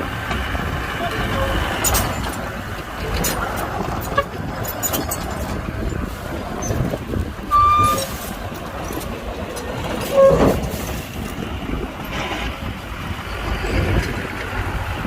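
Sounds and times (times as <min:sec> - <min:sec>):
heavy machinery engine rumbling: 0:00.0 - 0:15.0.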